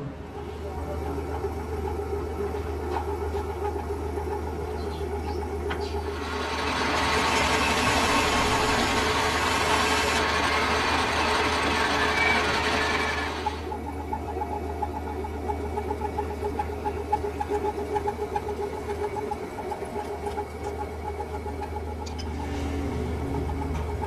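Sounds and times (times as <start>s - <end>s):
metal lathe humming: 0.0s - 24.0s
rapid even ticking: 0.6s - 24.0s.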